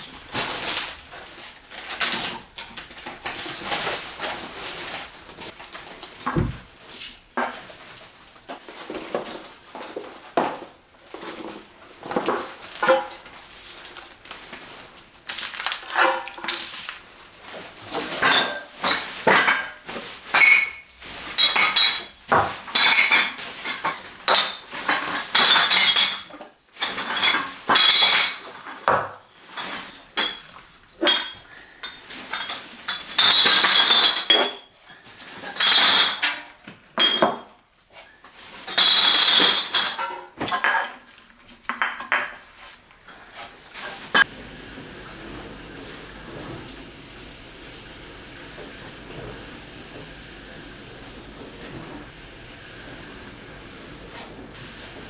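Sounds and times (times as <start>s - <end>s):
dishes clattering and clinking: 5.4s - 55.0s.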